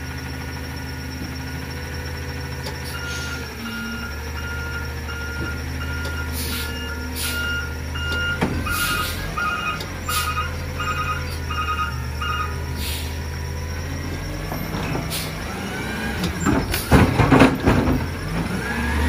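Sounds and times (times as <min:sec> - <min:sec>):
diesel engine running: 0:00.0 - 0:19.0
reversing alarm beeping: 0:00.0 - 0:19.0.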